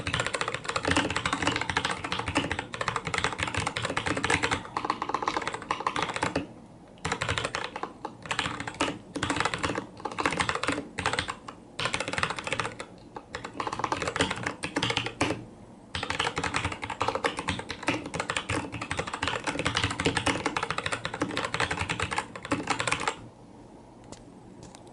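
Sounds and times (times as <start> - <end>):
fast typing on mechanical keyboard: 0.0 - 23.2.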